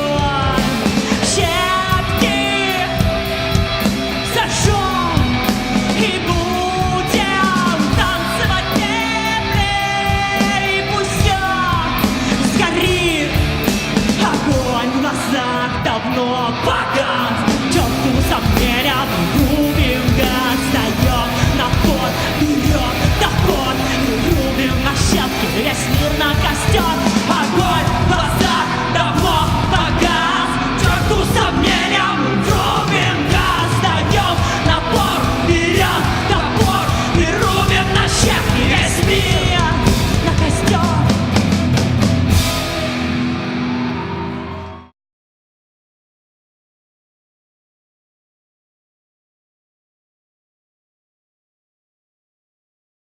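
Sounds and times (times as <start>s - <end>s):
rock band playing: 0.0s - 44.9s.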